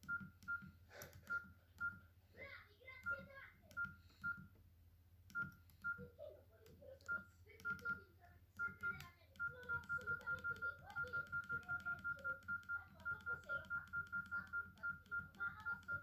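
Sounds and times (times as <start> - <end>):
mobile phone beeping: 0.0 - 2.1, 3.0 - 4.5, 5.3 - 6.2, 7.0 - 16.0.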